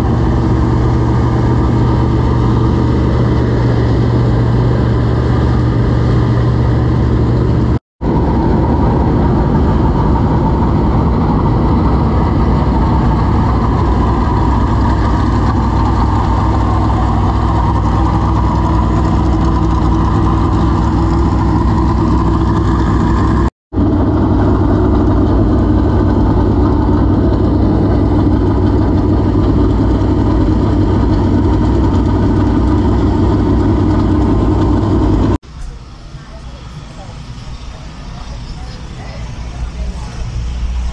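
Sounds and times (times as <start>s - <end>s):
race car engine idling: 0.0s - 40.9s.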